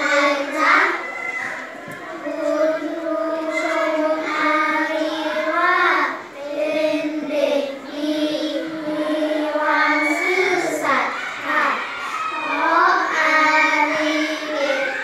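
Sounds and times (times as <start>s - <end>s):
children reading aloud in unison: 0.0s - 15.0s.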